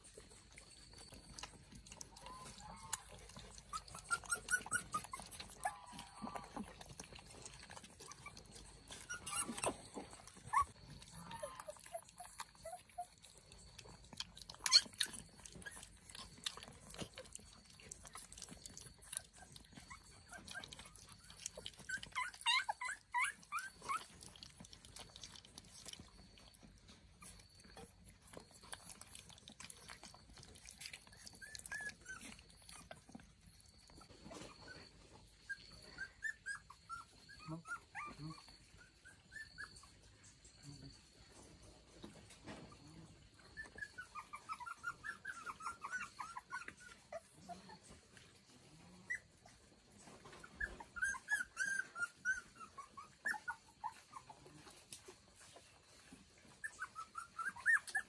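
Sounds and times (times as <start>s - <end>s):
dog whimpering: 0.0s - 41.0s, 42.4s - 58.0s.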